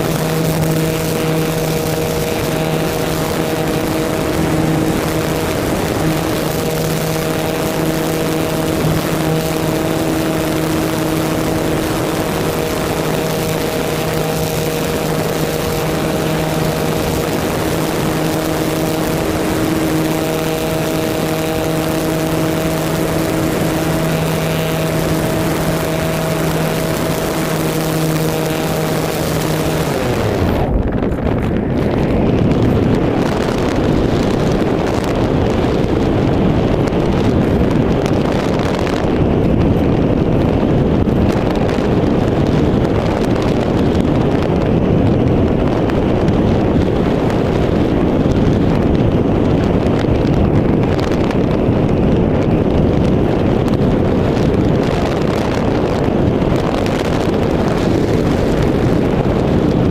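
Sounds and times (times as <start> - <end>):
airflow rushing: 0.0 - 59.9
model airplane motor hum: 0.0 - 59.9.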